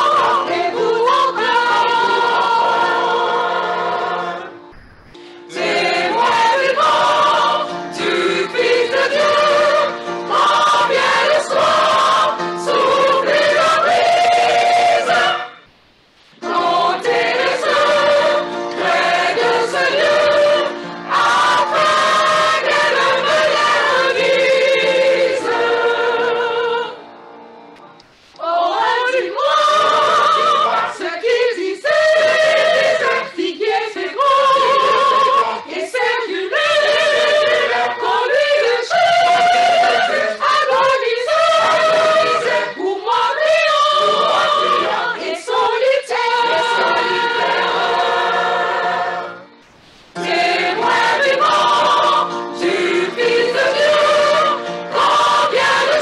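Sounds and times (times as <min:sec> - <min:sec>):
mixed choir singing: 0:00.0 - 0:15.6, 0:16.4 - 0:27.2, 0:28.4 - 0:56.0.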